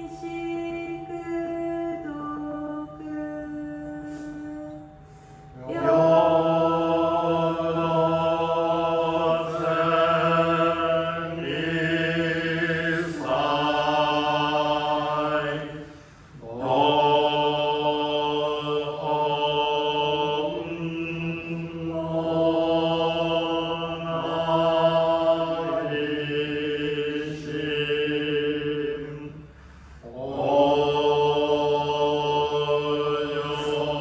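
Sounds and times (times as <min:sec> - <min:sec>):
voices chanting: 0:00.0 - 0:34.0.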